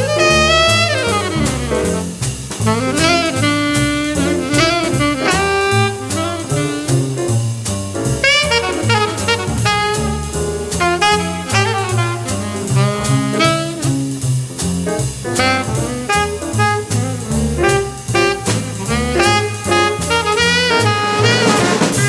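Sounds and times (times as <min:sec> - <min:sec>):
alto saxophone lead: 0:00.0 - 0:07.2, 0:08.2 - 0:14.2, 0:15.3 - 0:22.0
bass line: 0:00.0 - 0:22.0
drums with cymbal strokes: 0:00.0 - 0:22.0.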